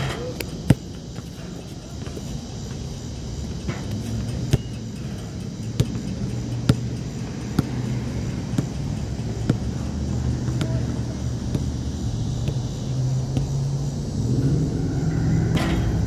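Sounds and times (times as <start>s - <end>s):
basketball bouncing on asphalt: 0.2s - 13.7s.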